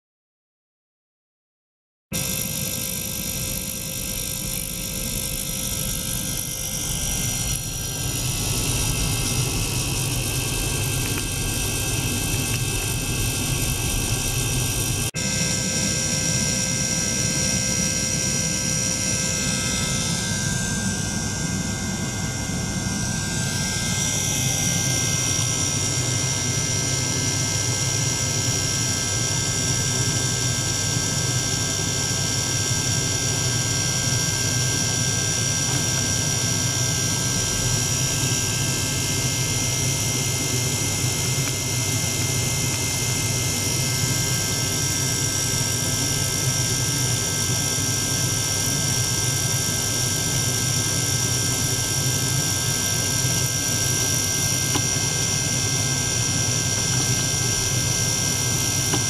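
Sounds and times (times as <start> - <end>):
pump running steadily: 2.2 - 59.0
steady high whine: 2.2 - 59.0.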